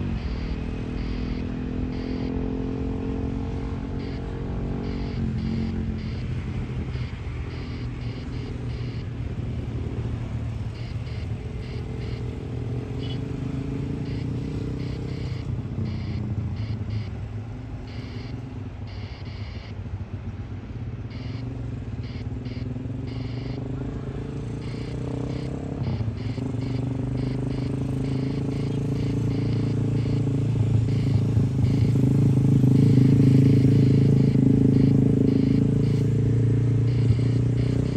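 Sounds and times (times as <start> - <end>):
engines rumbling: 0.0 - 37.9.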